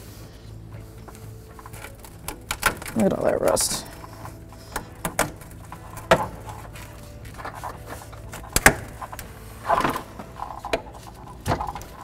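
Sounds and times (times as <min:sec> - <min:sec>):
hand tools clicking and knocking: 0:01.0 - 0:12.0.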